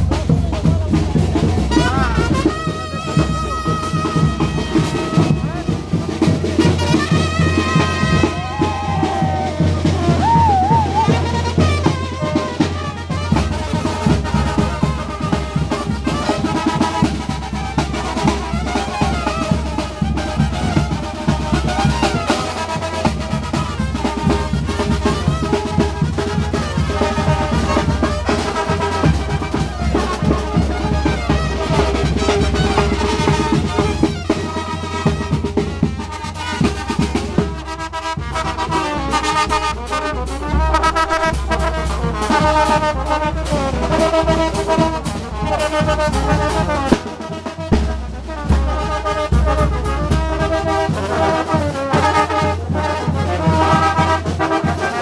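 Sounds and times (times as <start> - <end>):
bass drum beat: 0.0 - 55.0
street band of drums and horns: 0.0 - 55.0.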